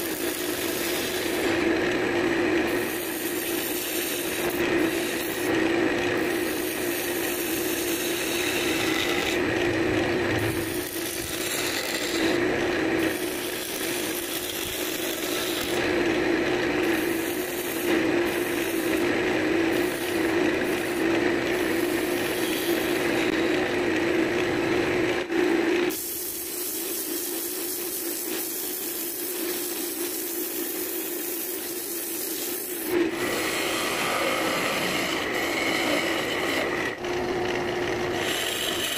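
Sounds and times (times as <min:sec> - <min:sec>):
turning tool scraping wood: 0:00.0 - 0:23.6, 0:25.8 - 0:38.9
wood lathe humming: 0:00.0 - 0:25.3, 0:28.5 - 0:38.9.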